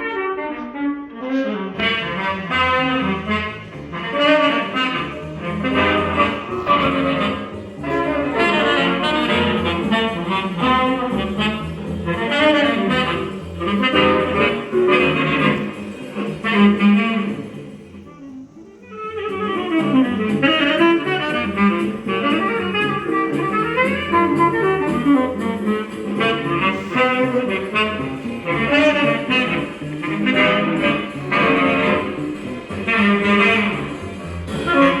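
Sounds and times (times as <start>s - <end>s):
music from a vinyl record: 0.1s - 35.0s.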